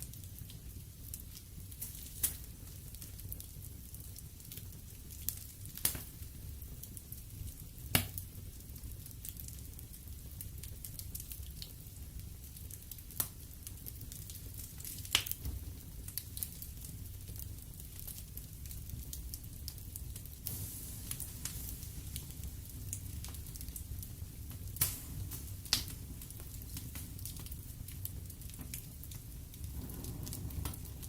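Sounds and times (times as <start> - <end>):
logs crackling and popping: 0.0 - 31.0
wood fire burning: 0.0 - 31.0.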